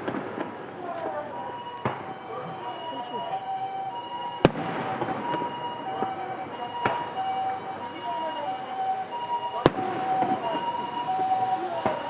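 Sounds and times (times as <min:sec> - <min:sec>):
firework bangs: 0:00.0 - 0:12.0
two-tone siren: 0:00.9 - 0:12.0.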